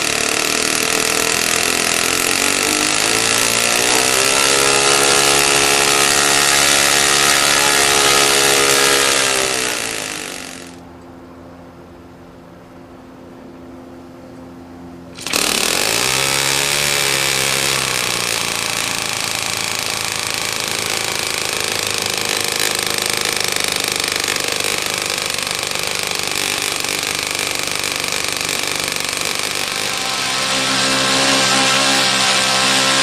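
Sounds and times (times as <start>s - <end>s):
model engine running: 0.0s - 10.8s, 15.2s - 33.0s.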